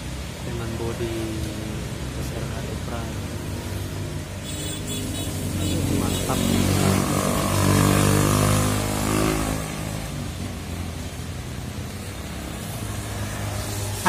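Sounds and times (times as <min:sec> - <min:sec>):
traffic noise: 0:00.0 - 0:14.0
tyre hiss on wet road: 0:00.0 - 0:14.0
motorcycles passing close by: 0:01.7 - 0:14.0.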